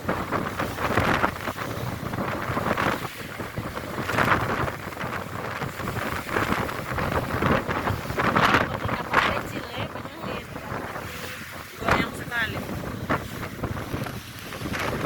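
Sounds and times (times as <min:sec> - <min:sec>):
sea and ship noise: 0:00.0 - 0:15.0
wind buffeting microphone: 0:00.0 - 0:15.0.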